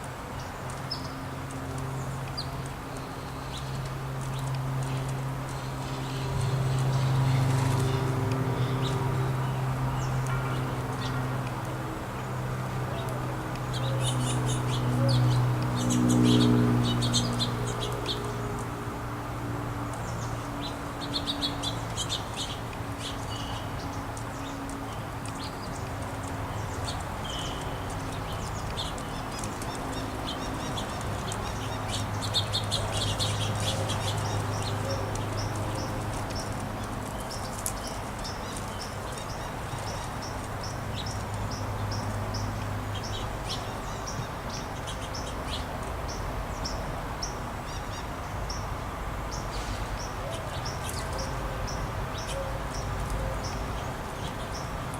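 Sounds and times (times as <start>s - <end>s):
songbirds chirping and twittering: 0.0s - 54.9s.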